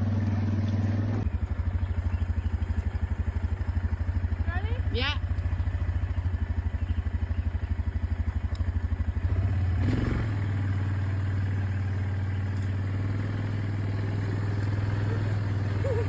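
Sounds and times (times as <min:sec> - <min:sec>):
atv engine idling and revving: 0:00.0 - 0:16.0.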